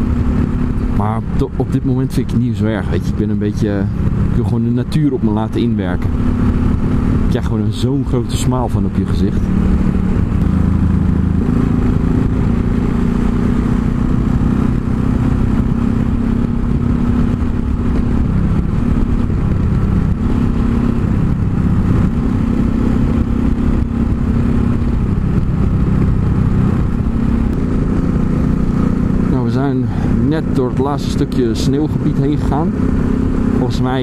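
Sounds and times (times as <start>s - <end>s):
motorcycle engine cruising: 0.0s - 34.0s.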